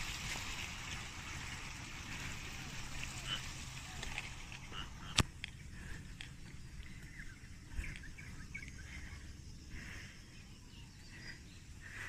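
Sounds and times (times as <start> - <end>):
low steady rumble: 0.0 - 12.0
small birds chirping: 0.3 - 12.0.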